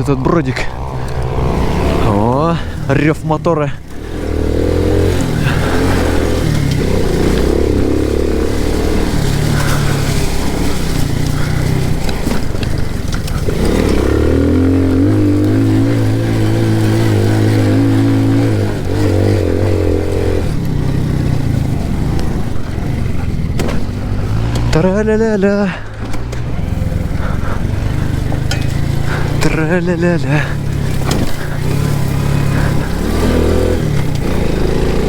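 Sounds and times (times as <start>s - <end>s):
moped engine revving: 0.0s - 35.0s.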